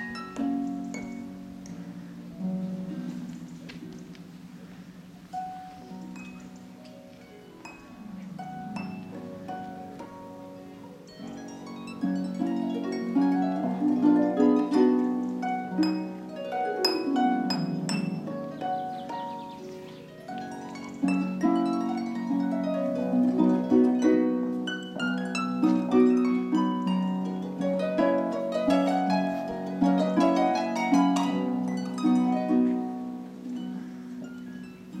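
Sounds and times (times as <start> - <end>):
harp playing: 0.0 - 35.0.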